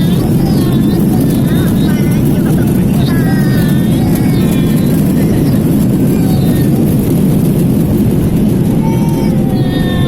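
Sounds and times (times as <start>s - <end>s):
airliner landing rumble: 0.0s - 10.0s
faint voices: 0.0s - 10.0s.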